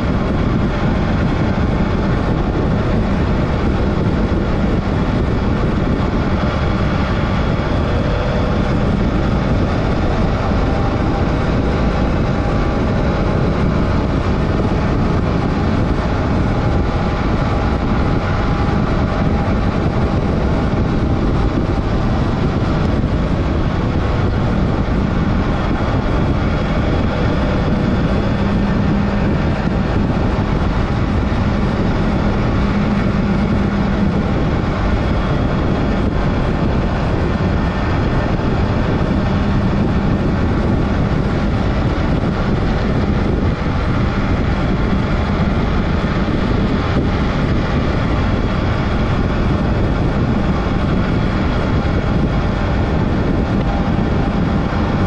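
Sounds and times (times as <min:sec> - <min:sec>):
motorcycle engine running: 0:00.0 - 0:55.0
rushing noise: 0:00.0 - 0:55.0.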